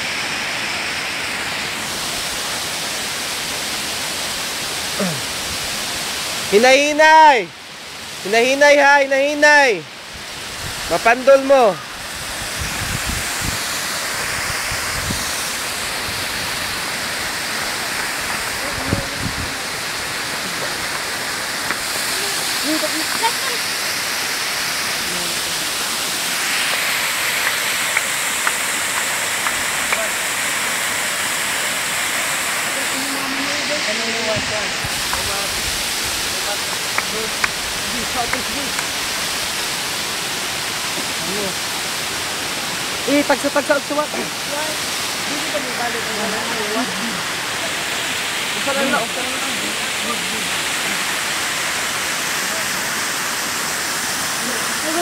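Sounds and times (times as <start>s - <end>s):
stream rushing over rocks: 0.0s - 55.0s
waterfall roaring: 0.0s - 55.0s.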